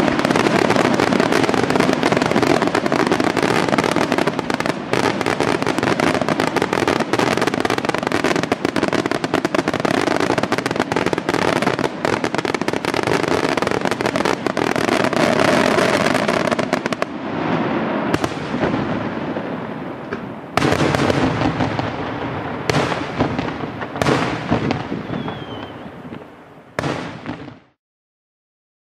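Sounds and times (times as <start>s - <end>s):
fireworks crackling and banging: 0.0s - 27.8s.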